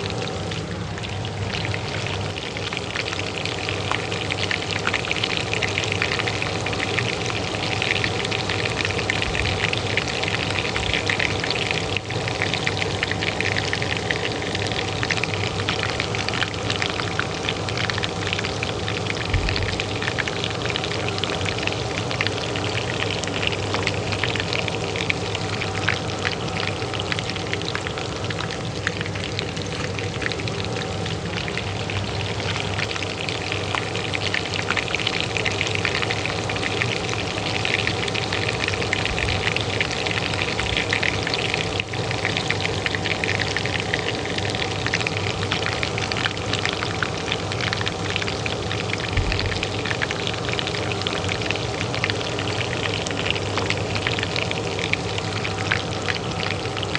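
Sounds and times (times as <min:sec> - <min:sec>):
oil sizzling in a pan: 0:00.0 - 0:56.9
range hood fan humming: 0:00.0 - 0:56.9.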